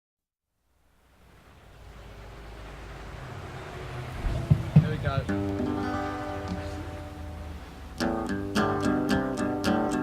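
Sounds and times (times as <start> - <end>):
steady hiss: 0.6 - 10.0.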